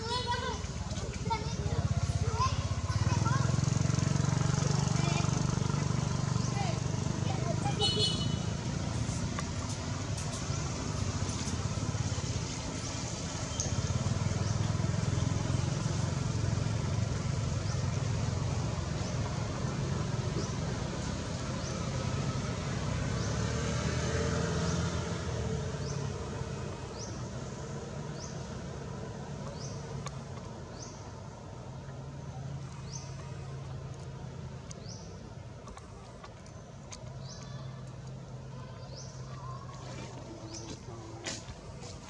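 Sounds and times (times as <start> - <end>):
motor vehicle rumble: 0.0 - 42.0.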